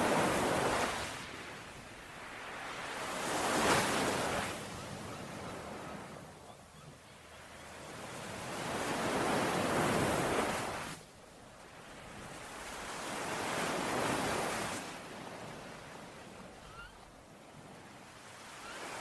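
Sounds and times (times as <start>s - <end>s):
ocean waves washing onto shore: 0.0s - 6.4s, 7.3s - 19.0s.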